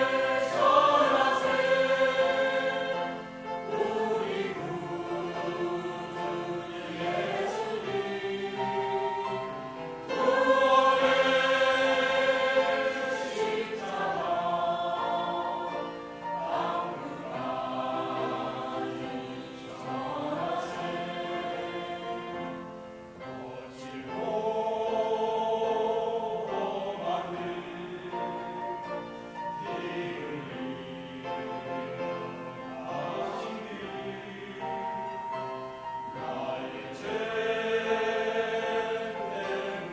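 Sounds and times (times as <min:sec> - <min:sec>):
choir singing a praise song: 0:00.0 - 0:22.7, 0:23.3 - 0:39.9.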